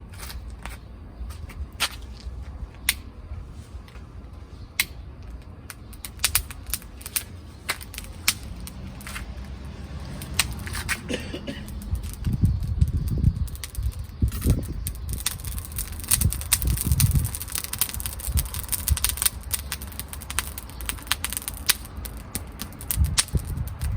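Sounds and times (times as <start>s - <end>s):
campfire crackling and popping: 0.0s - 23.9s
low steady rumble: 0.0s - 23.9s.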